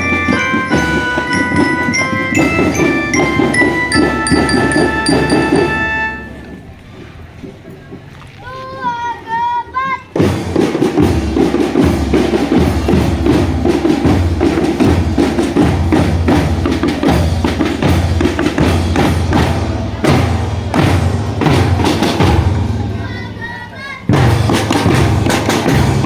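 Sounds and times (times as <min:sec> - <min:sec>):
marching drums beating: 0:00.0 - 0:06.8, 0:10.2 - 0:26.0.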